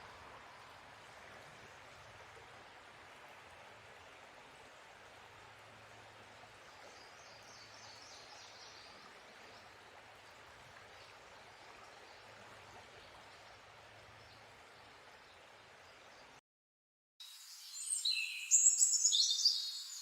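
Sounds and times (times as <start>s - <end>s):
outdoor ambience hiss: 0.0s - 16.4s.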